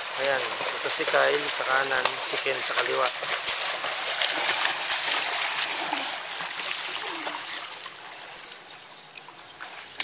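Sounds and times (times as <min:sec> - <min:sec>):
swimmers splashing in a pool: 0:00.0 - 0:10.0.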